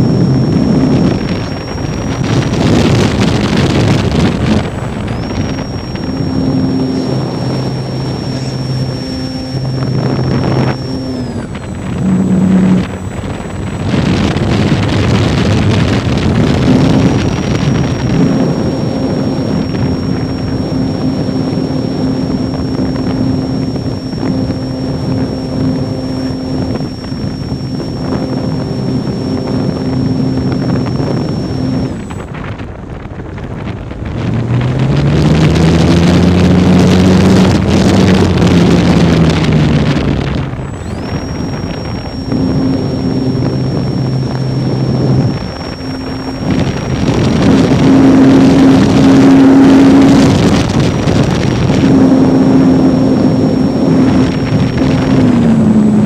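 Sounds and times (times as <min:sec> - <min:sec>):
rising and falling drone: 0:00.0 - 0:33.1, 0:33.9 - 0:56.0
electric motor whine: 0:00.0 - 0:56.0
propeller buzz: 0:00.0 - 0:56.0
wind rushing over microphone: 0:00.0 - 0:56.0.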